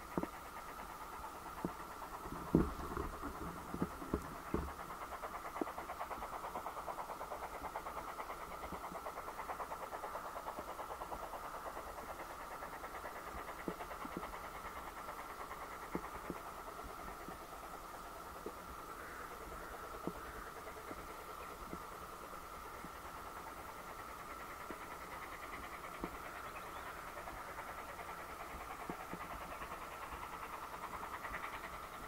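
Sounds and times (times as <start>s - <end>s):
steam locomotive chuffing: 0.0s - 32.0s.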